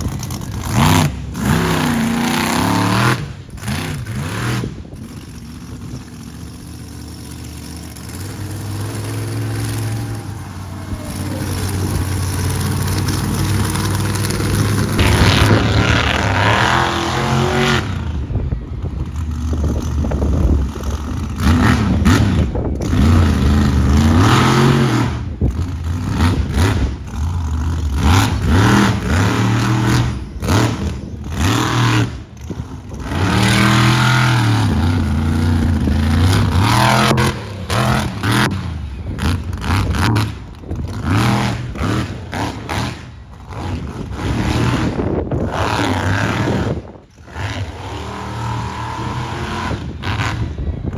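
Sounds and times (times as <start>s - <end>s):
clatter: 0.0s - 50.9s
truck engine revving hard: 0.0s - 50.9s.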